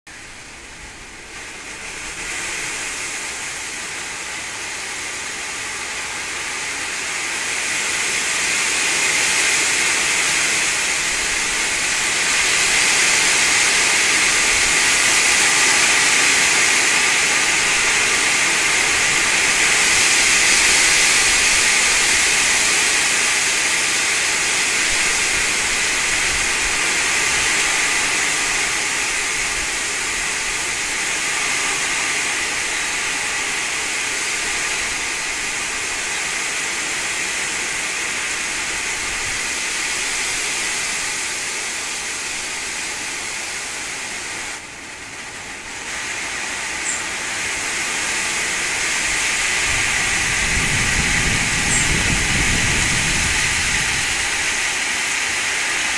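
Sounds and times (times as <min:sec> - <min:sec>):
storm wind rushing through trees: 0:00.1 - 0:55.9.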